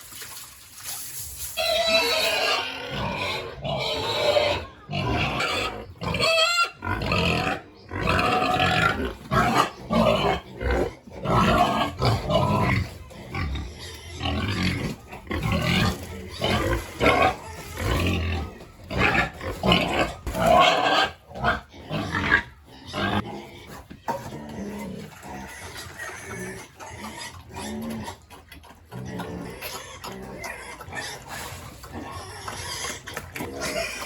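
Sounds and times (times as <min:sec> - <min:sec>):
pigs grunting and squealing: 0:01.5 - 0:34.0.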